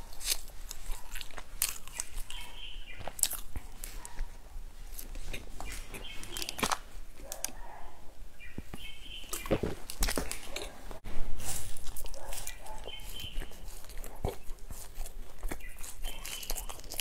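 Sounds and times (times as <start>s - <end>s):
crunchy biscuit bites: 0.0s - 4.0s, 4.9s - 7.6s, 8.8s - 17.0s
chewing with crisp crackles: 0.0s - 17.0s.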